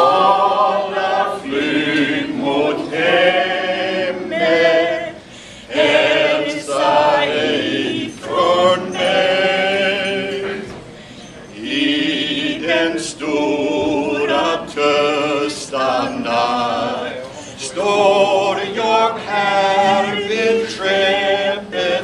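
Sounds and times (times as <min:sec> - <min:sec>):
group singing unaccompanied: 0:00.0 - 0:10.9, 0:11.5 - 0:22.0.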